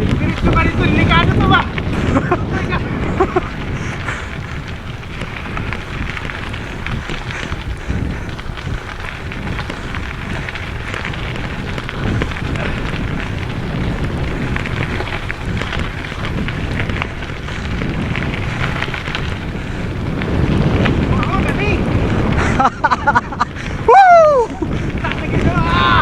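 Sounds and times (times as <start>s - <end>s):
bike tyres rolling over dirt: 0.0s - 26.0s
wind rushing: 0.0s - 26.0s.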